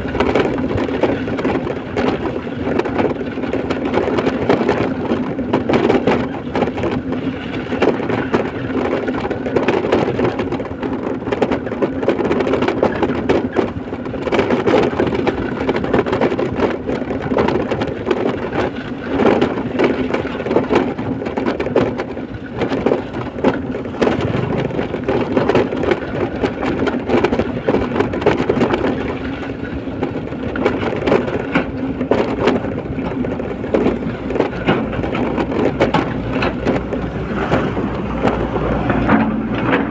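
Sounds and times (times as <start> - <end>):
rattling and clatter: 0.0 - 39.9
vehicle engine and road noise: 0.0 - 39.9.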